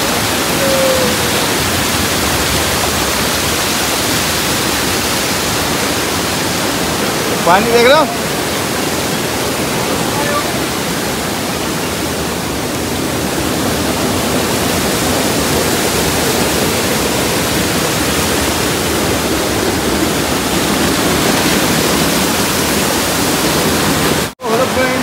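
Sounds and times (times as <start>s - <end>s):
floodwater rushing down stream: 0.0s - 25.0s.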